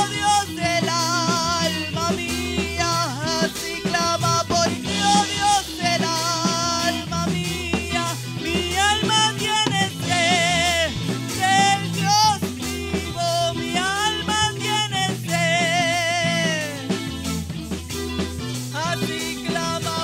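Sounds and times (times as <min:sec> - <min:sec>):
woman singing into a microphone: 0:00.0 - 0:16.9, 0:18.8 - 0:20.0
band playing drums bass and guitar: 0:00.0 - 0:20.0.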